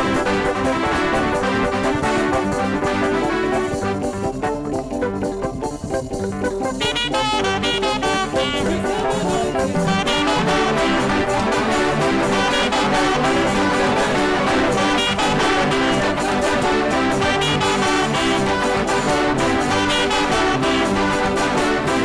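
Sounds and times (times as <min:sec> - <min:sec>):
saxophone lead: 0:00.0 - 0:05.4, 0:06.0 - 0:22.0
gospel praise music: 0:00.0 - 0:22.0.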